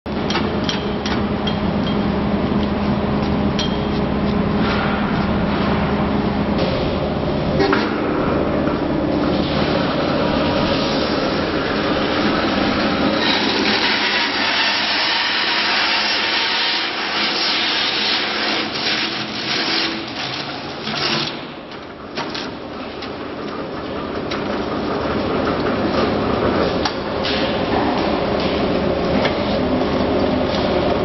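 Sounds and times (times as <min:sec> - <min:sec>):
tyre cutter machine running: 0:00.1 - 0:31.0.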